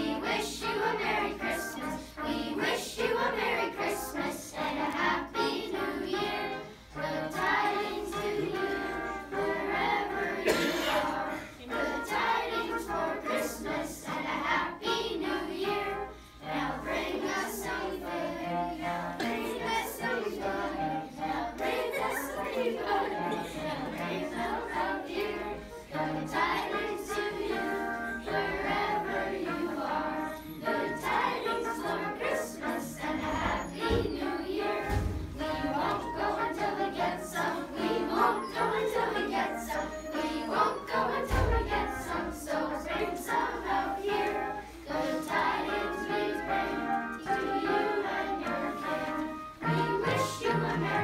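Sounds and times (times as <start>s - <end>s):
children's choir singing carol: 0.0s - 51.0s.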